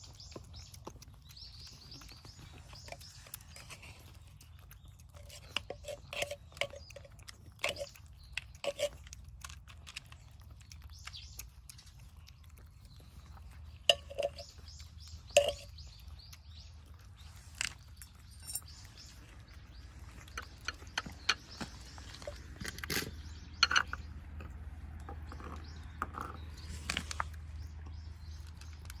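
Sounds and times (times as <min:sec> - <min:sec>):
cats chewing wet food: 0:00.0 - 0:29.0.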